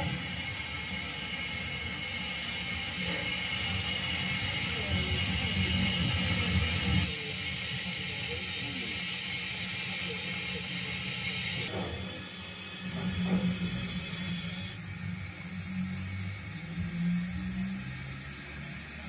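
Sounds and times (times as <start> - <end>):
steam hiss: 0.0 - 19.0
steam train rumble: 0.0 - 19.0.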